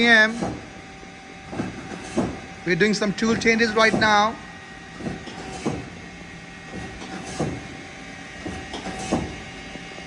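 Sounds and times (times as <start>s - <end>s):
lathe turret clunks: 0.0s - 9.6s
lathe spindle running: 0.0s - 10.0s.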